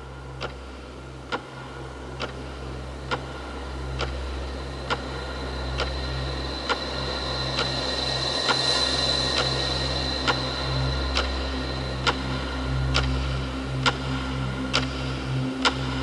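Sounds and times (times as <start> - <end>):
low synth drone: 0.0 - 16.0
clock-like tick: 0.4 - 0.7, 1.3 - 4.2, 4.8 - 16.0.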